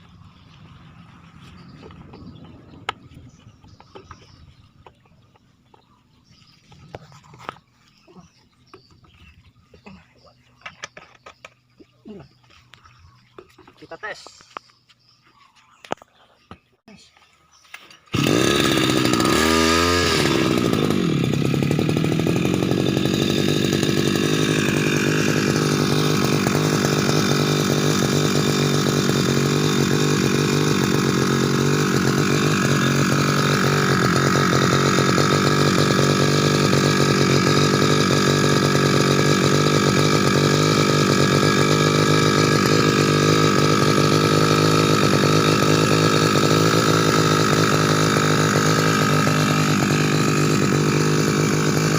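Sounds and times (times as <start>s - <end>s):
brush cutter engine revving: 0.1s - 9.9s, 17.7s - 51.9s.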